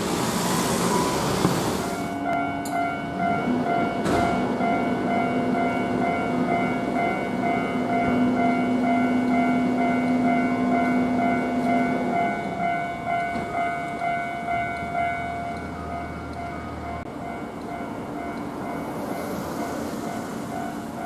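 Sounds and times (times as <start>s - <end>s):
electric train running past: 0.0s - 21.0s
level crossing warning bell: 0.9s - 21.0s.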